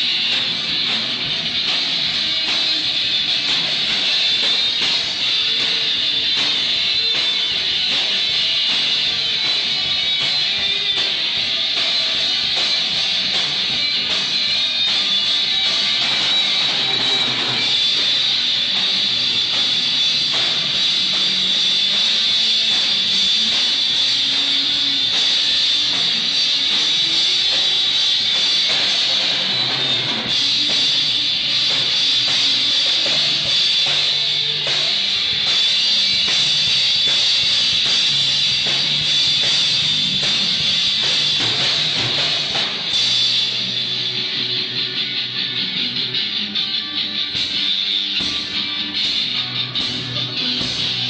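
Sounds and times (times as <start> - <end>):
drum kit: 0.0 - 51.0
strummed electric guitar: 0.0 - 51.0.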